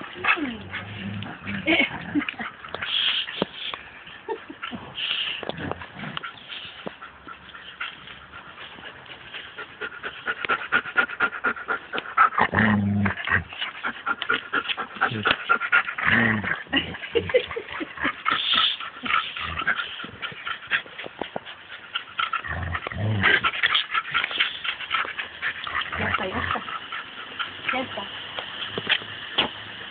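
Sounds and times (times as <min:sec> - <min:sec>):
dogs growling: 0:00.0 - 0:03.0, 0:04.6 - 0:28.1.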